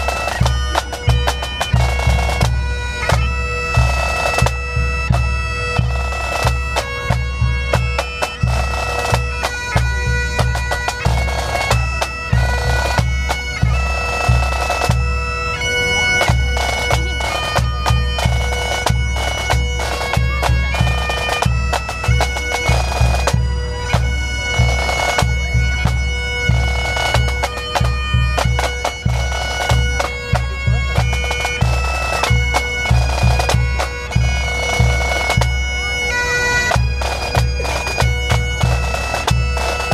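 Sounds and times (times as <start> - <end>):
drums beating: 0.0 - 35.9, 36.6 - 39.9
bagpipes playing melody over drone: 0.0 - 39.9.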